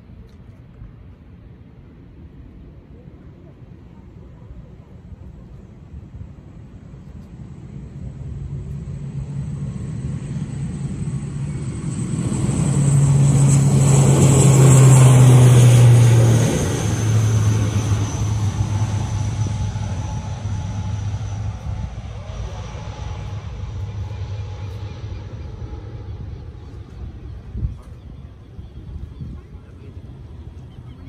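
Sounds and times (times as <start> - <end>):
low propeller drone: 0.0 - 31.0.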